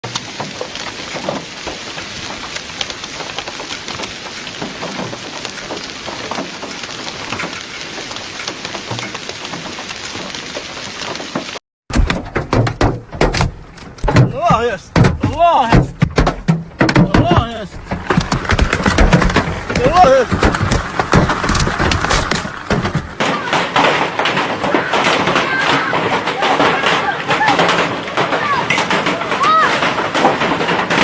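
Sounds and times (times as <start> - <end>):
hail and heavy rain: 0.0 - 31.0
hailstones hitting hard surfaces: 0.0 - 31.0.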